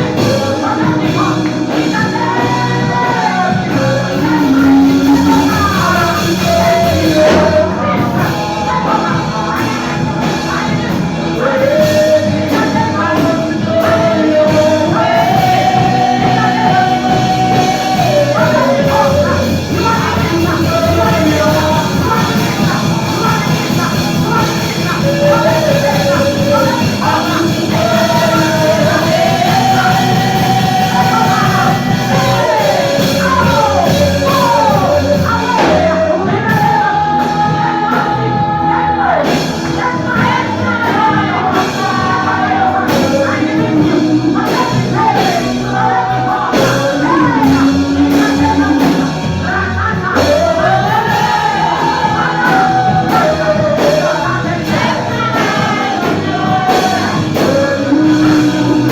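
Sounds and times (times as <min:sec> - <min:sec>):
regular beat: 0:00.0 - 0:58.9
singing over band: 0:00.0 - 0:58.9.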